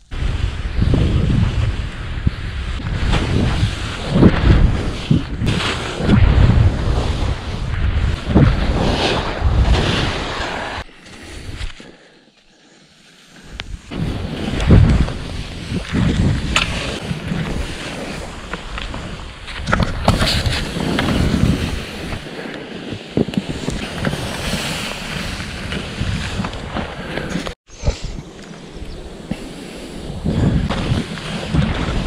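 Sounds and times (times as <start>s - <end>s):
wind buffeting microphone: 0.0s - 11.7s, 13.5s - 32.0s
skis scraping through snow: 0.0s - 32.0s.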